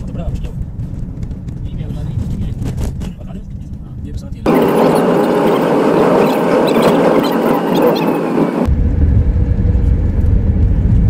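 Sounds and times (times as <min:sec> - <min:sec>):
car road and tyre noise: 0:00.0 - 0:11.0
low rumble: 0:00.0 - 0:11.0.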